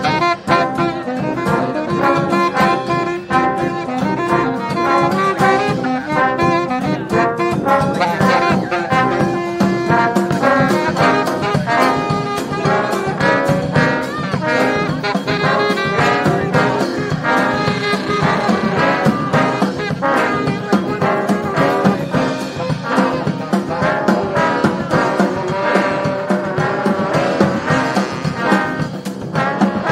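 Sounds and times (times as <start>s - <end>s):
brass band playing: 0.0s - 29.9s
drum beat: 0.0s - 29.9s.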